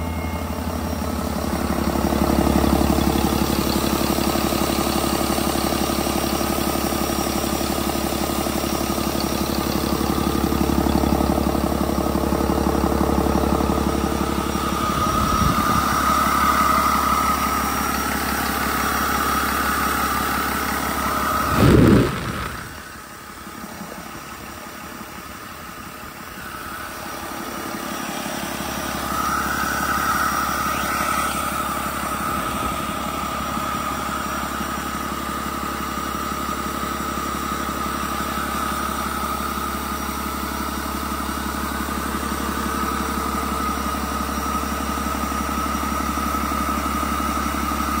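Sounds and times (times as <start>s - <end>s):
steady high whine: 0.0s - 44.8s
diesel engine idling: 0.0s - 48.0s.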